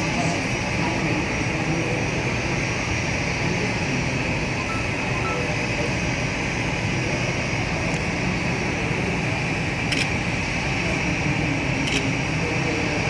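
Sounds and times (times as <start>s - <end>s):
jet engines whining at taxi: 0.0s - 13.0s.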